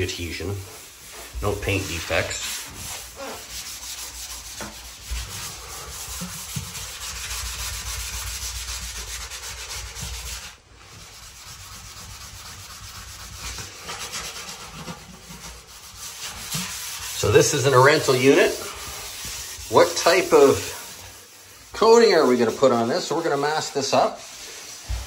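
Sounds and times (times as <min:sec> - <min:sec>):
sanding a porcelain tub: 0:00.0 - 0:25.0.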